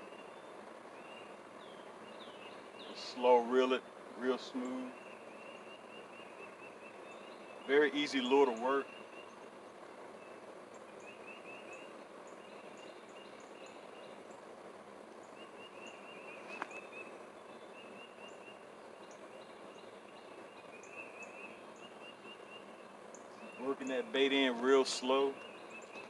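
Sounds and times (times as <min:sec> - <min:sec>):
background hiss: 0:00.0 - 0:26.0
small birds chirping: 0:00.0 - 0:26.0.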